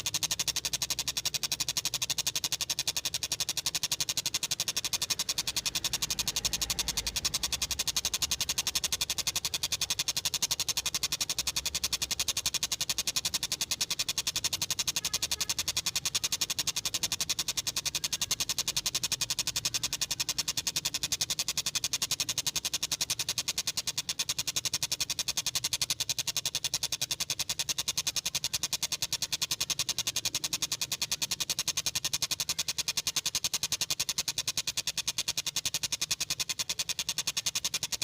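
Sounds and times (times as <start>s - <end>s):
kingfisher rapid rattling call: 0.0s - 38.0s.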